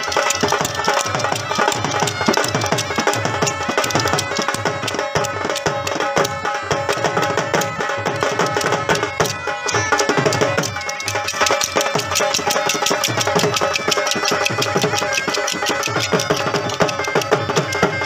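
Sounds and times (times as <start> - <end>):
dhol drumming: 0.0 - 18.0
steady held melody: 0.0 - 18.0.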